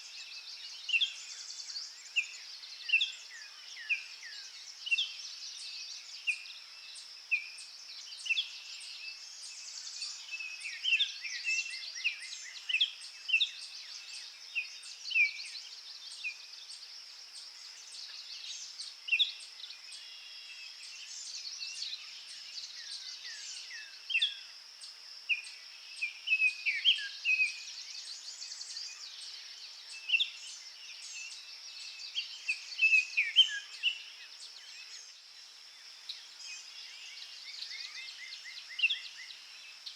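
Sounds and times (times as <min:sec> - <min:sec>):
high-pitched background hiss: 0:00.0 - 0:39.9
songbirds chirping: 0:00.0 - 0:39.9.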